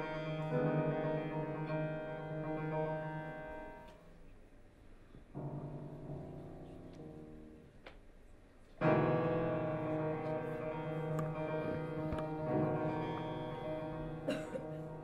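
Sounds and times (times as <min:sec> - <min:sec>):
piano chords: 0:00.0 - 0:03.9, 0:05.3 - 0:07.7, 0:08.8 - 0:15.0.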